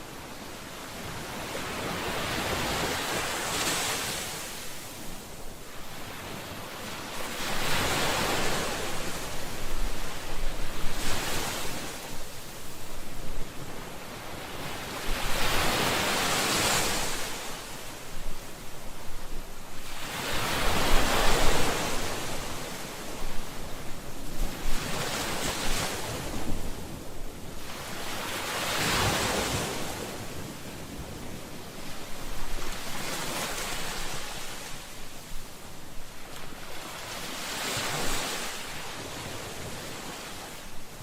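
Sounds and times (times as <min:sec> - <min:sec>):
ocean waves breaking on shore: 0:00.0 - 0:41.0.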